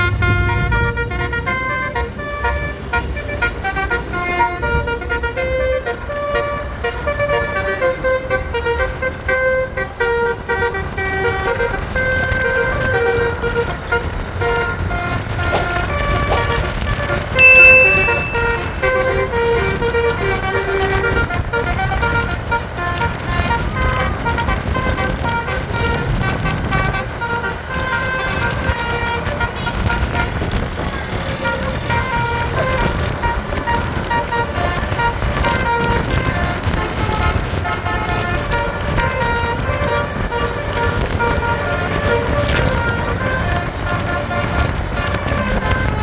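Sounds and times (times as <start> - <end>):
multi-tone bus horn: 0.0 - 46.0
traffic: 0.0 - 46.0.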